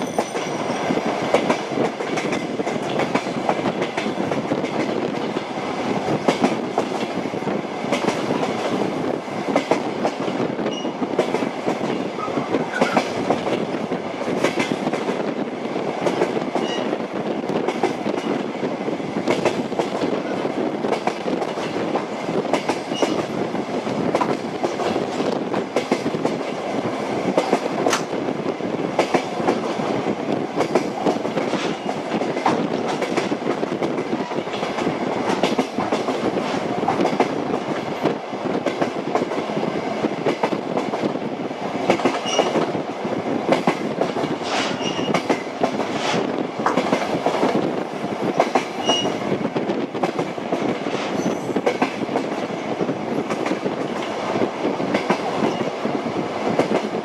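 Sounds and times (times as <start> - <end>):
train rumble: 0.0 - 57.0
train wheels clickety-clack: 0.0 - 57.0.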